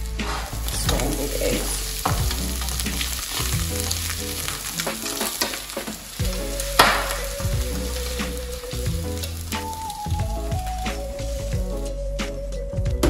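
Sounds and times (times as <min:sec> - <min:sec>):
food sizzling in a frying pan: 0:00.0 - 0:11.9.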